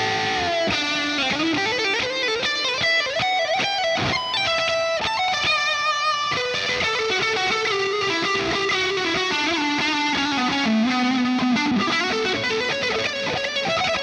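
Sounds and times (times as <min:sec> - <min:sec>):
electric guitar lead line: 0:00.0 - 0:14.0.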